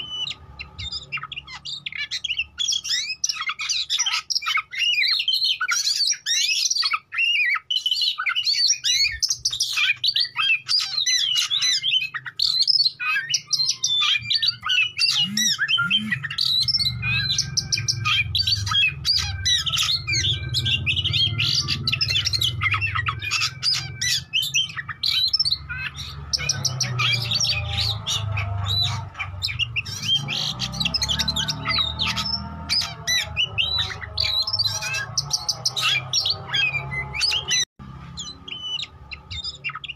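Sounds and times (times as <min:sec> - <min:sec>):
songbird singing whistled trills: 0:00.0 - 0:39.9.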